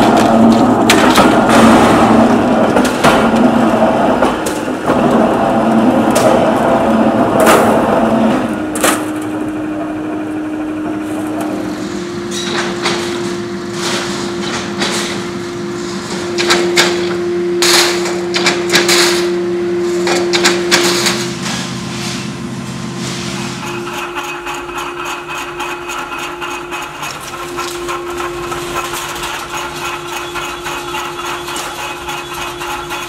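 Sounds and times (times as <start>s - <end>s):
machine hum: 0.0s - 33.0s
rolling mill rumble: 0.0s - 33.0s.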